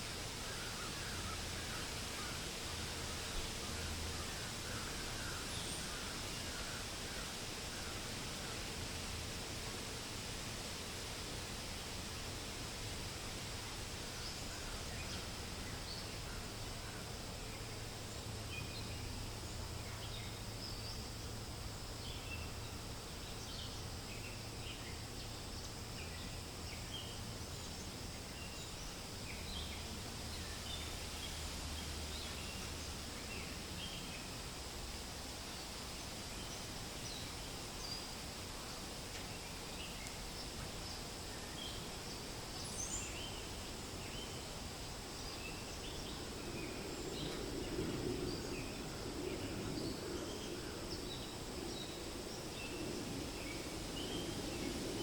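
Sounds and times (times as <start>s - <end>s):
wind rustling through leaves: 0.0s - 55.0s.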